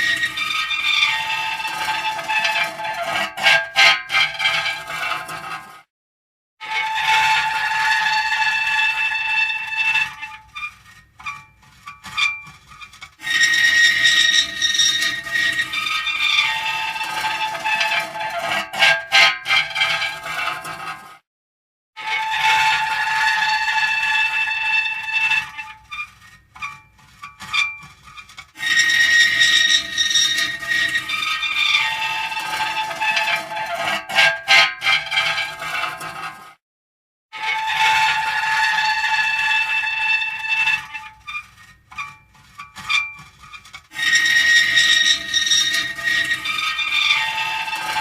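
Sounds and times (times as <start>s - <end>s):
metal creaking and squealing: 0.0s - 5.7s, 6.6s - 21.1s, 22.0s - 36.4s, 37.4s - 48.0s.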